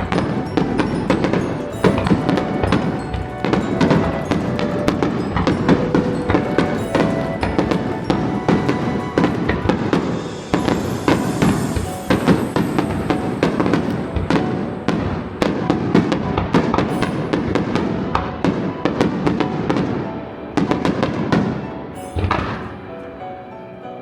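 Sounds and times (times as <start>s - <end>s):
fireworks bangs and crackles: 0.0s - 22.9s
music playing: 0.0s - 24.0s.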